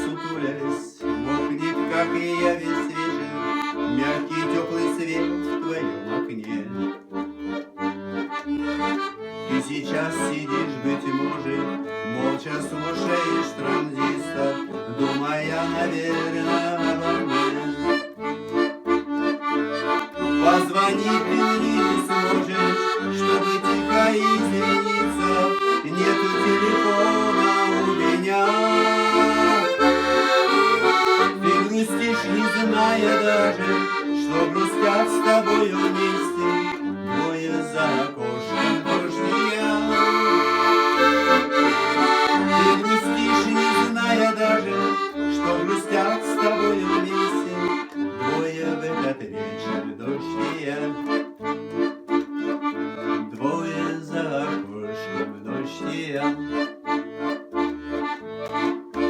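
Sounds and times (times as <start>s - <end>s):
accordion melody: 0.0s - 59.0s.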